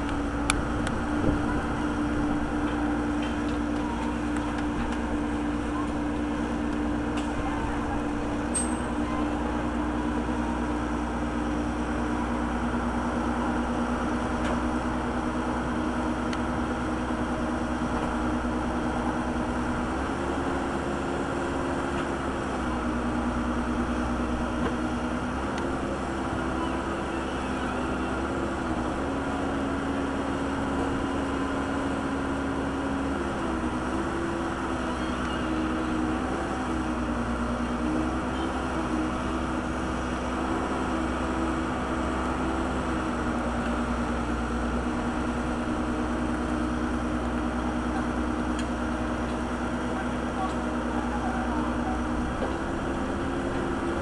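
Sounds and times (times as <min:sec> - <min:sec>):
backhoe engine running: 0:00.0 - 0:54.0.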